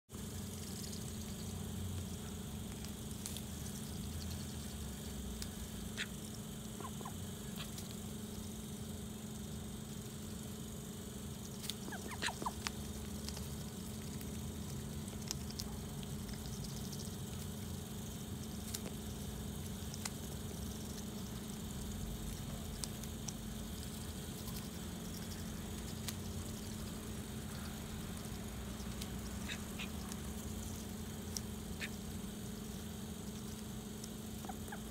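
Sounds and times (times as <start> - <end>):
ducks pecking in wet soil: 0.1 - 8.6, 11.3 - 34.9
steady low hum: 0.1 - 34.9.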